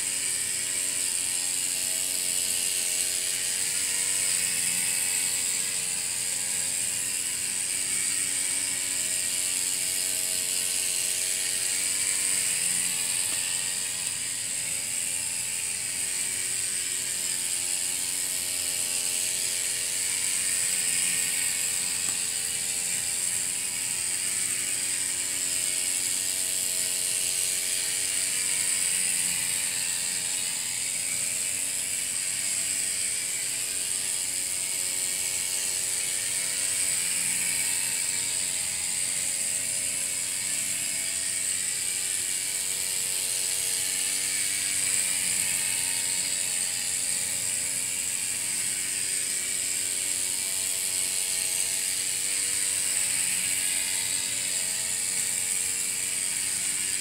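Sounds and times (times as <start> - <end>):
miniature steam engine hissing: 0.0 - 57.0.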